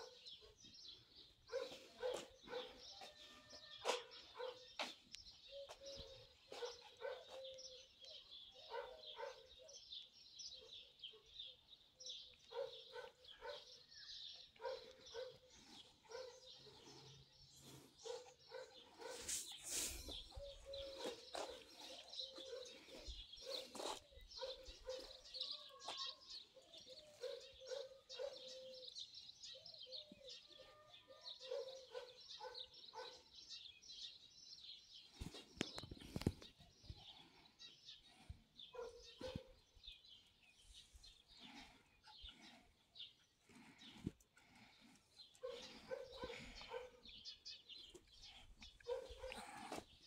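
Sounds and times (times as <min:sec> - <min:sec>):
faint small birds chirping: 0:00.0 - 0:50.0
repeated mid-pitched bird calls: 0:00.0 - 0:50.0.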